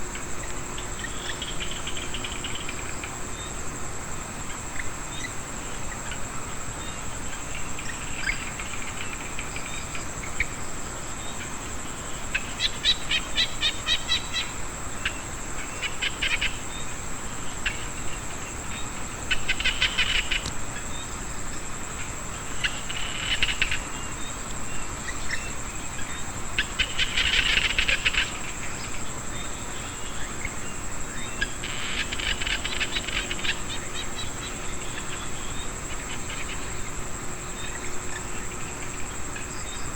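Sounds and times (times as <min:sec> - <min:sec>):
frogs rattling calls: 0:00.0 - 0:39.9
high insect whine: 0:00.0 - 0:39.9.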